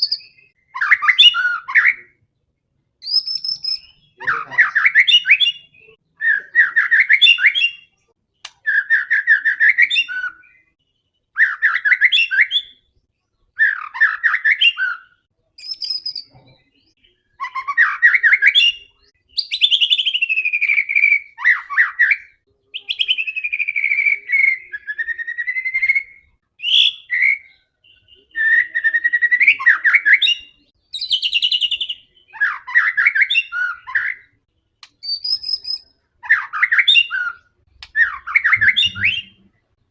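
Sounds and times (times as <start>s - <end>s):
songbird trills and whistles: 0.0s - 2.2s, 3.0s - 39.6s.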